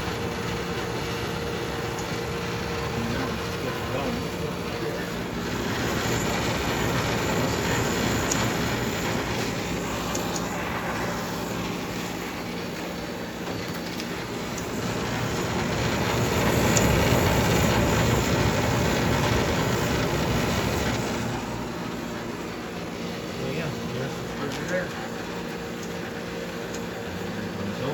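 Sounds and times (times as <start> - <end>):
dehumidifier fan humming: 0.0 - 27.9.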